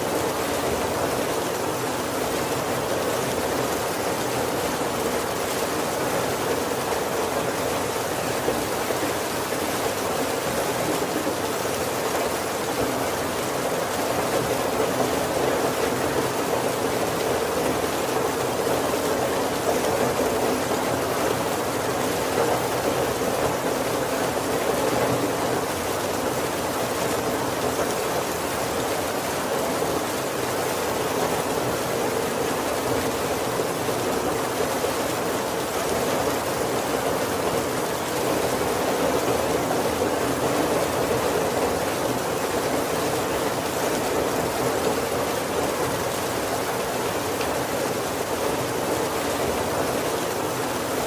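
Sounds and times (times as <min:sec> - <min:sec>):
heavy rain on a wooden roof: 0:00.0 - 0:51.0.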